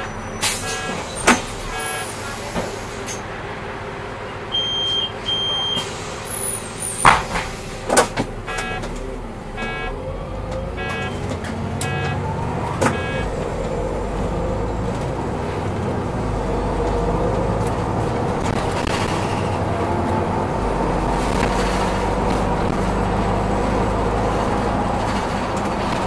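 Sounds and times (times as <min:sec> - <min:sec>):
bus engine running: 0:00.0 - 0:26.0
road noise: 0:00.0 - 0:26.0.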